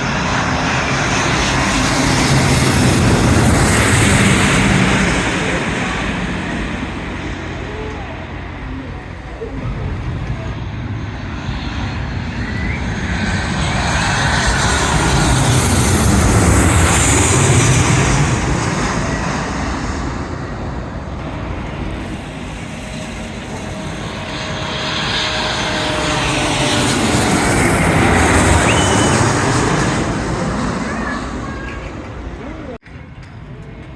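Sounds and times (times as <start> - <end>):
airliner engine rush: 0.0 - 33.9.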